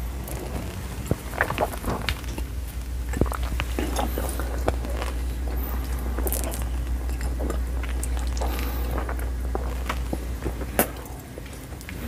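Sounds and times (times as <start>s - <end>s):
steady low hum: 0.0s - 12.0s
gum chewing smacks: 0.2s - 12.0s.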